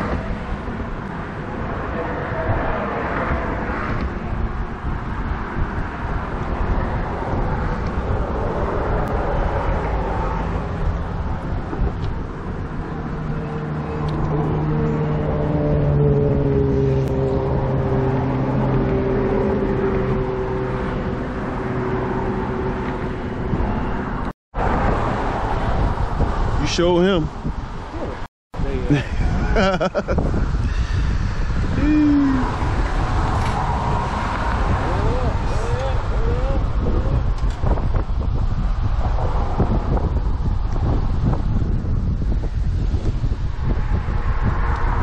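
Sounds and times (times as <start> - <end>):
steady rushing noise: 0.0 - 45.0
vehicle engine droning: 0.0 - 45.0.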